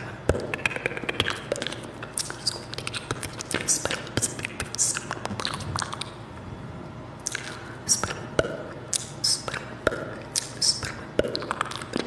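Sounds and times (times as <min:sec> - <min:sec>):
wet mouth clicks and smacks: 0:00.3 - 0:06.2, 0:07.2 - 0:08.2, 0:08.9 - 0:12.0.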